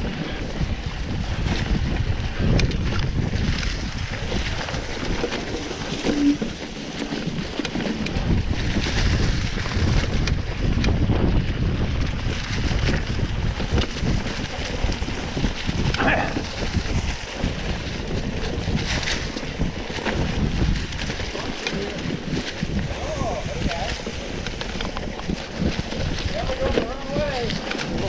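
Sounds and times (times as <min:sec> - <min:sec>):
bike rumbling knocks and rattles: 0:00.0 - 0:28.0
wind rushing over microphone: 0:00.0 - 0:28.0.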